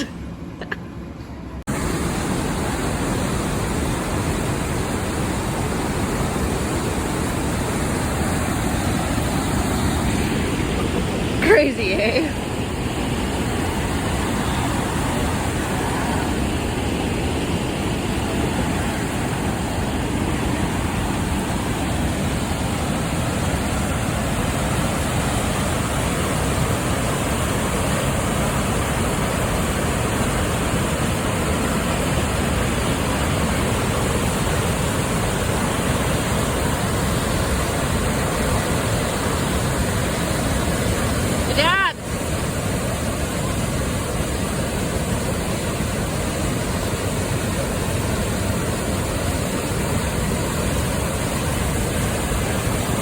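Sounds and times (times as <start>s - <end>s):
waterfall rushing: 1.7s - 53.0s.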